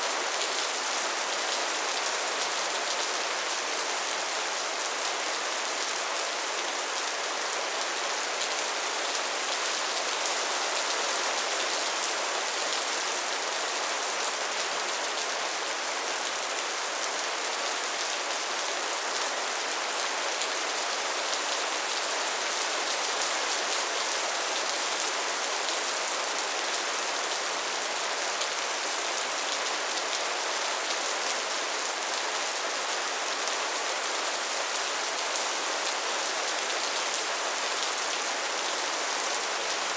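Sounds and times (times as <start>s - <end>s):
soft rain patter: 0.0s - 39.9s.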